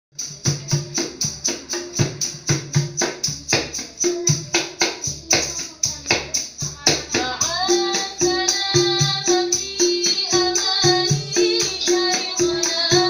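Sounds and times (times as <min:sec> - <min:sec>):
hand drums played rhythmically: 0:00.1 - 0:13.0.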